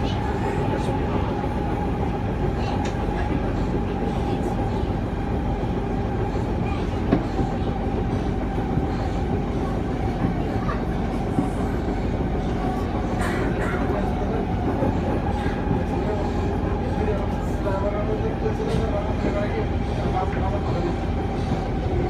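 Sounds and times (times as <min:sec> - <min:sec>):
train rolling noise: 0:00.0 - 0:22.0
train whine: 0:00.0 - 0:22.0.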